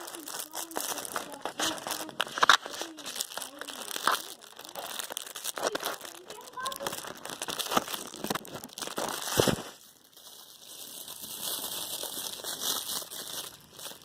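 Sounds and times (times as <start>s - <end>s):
crinkling rustling handling: 0.0s - 14.0s.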